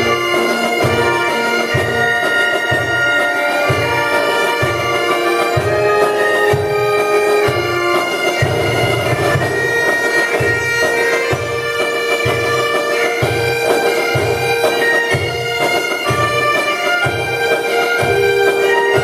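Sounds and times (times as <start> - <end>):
bagpipe melody with drone: 0.0 - 19.0.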